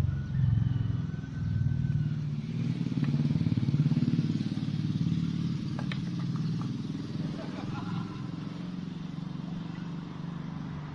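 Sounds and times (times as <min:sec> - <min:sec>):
engine chugging: 0:00.0 - 0:10.9.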